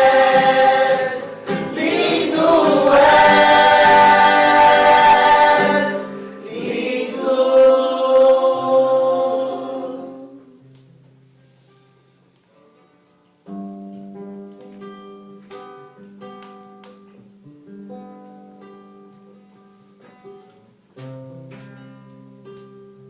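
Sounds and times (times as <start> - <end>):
acoustic guitar strumming: 0.0 - 11.2, 12.6 - 23.0.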